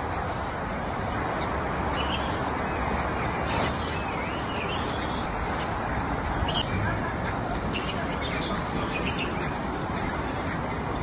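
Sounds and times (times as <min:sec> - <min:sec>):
outdoor background hubbub: 0:00.0 - 0:11.0
small birds chirping: 0:00.0 - 0:11.0.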